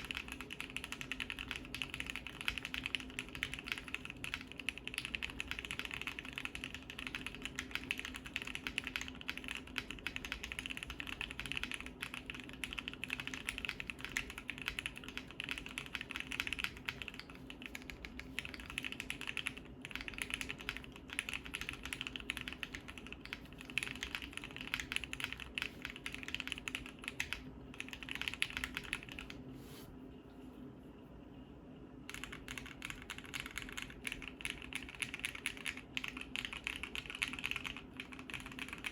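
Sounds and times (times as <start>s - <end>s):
fast typing on mechanical keyboard: 0.0s - 29.4s, 32.1s - 38.9s.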